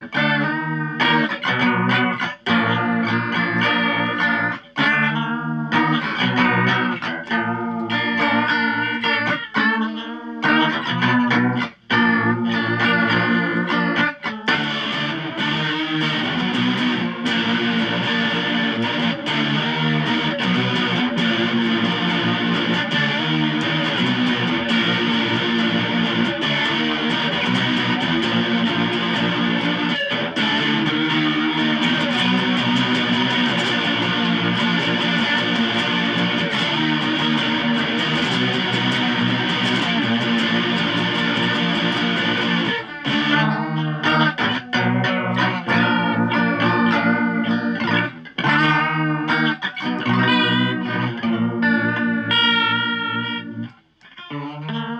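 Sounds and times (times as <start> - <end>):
distorted electric guitar strumming: 0.0 - 54.9.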